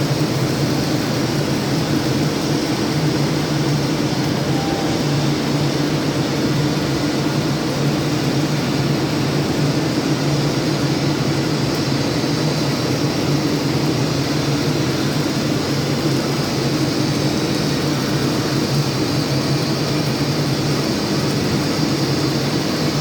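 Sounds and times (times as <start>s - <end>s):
welding arc crackling hiss: 0.0s - 23.0s.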